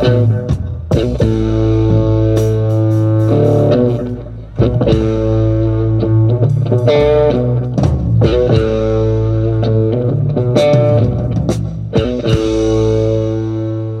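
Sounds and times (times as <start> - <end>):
electric guitar chords: 0.0 - 14.0
steady bass note: 0.0 - 14.0.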